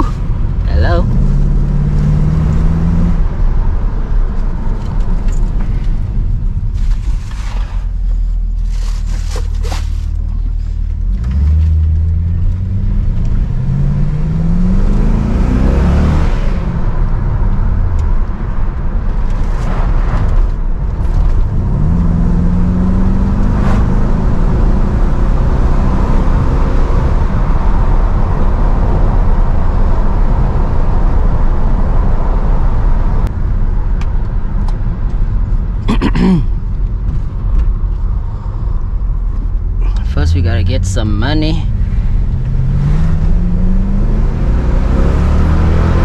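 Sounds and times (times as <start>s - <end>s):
car engine accelerating: 0.0s - 35.9s, 36.6s - 46.0s
road noise: 0.0s - 46.0s.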